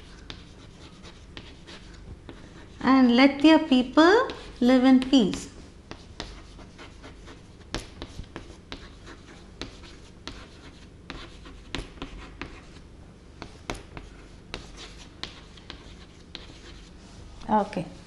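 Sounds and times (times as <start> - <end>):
writing scratches on a board: 0.0 - 3.1, 4.2 - 12.8, 13.4 - 17.0.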